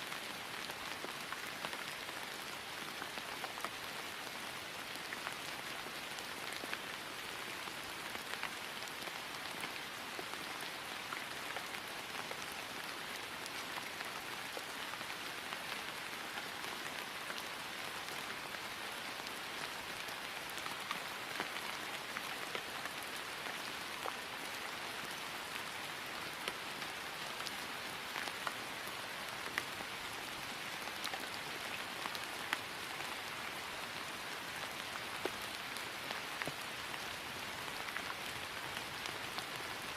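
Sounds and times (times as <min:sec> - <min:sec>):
rain falling on grass: 0:00.0 - 0:39.9.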